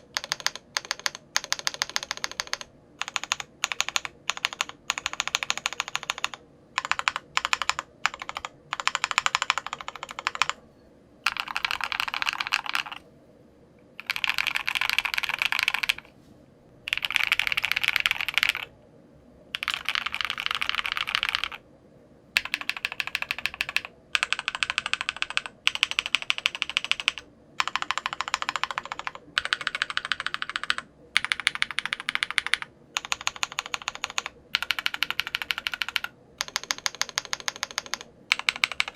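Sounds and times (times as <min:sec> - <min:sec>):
mechanical keyboard typing: 0:00.0 - 0:10.6, 0:11.2 - 0:13.0, 0:14.0 - 0:16.1, 0:16.9 - 0:18.7, 0:19.5 - 0:21.6, 0:22.4 - 0:38.9.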